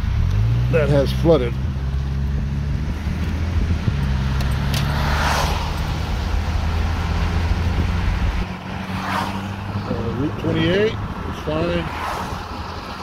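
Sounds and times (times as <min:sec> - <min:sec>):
car engine and tyre hum: 0:00.0 - 0:13.0
vehicle swishing past: 0:00.0 - 0:13.0.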